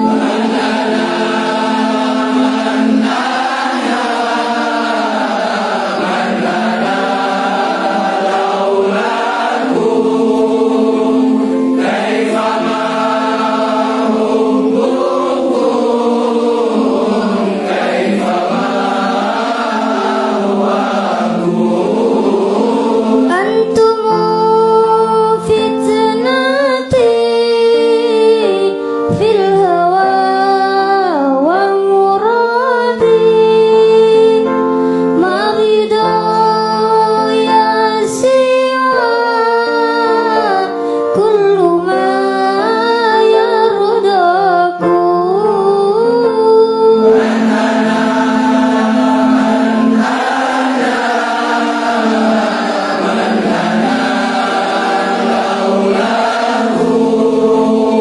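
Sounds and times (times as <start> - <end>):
group singing devotional song: 0.0 - 34.5, 35.2 - 58.0.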